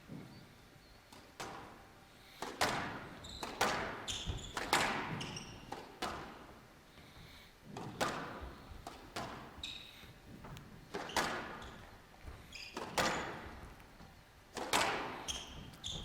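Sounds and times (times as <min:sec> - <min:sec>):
shoes squeaking on court floor: 0:00.1 - 0:06.6, 0:07.2 - 0:16.0
squash ball hitting rackets and walls: 0:01.1 - 0:16.0.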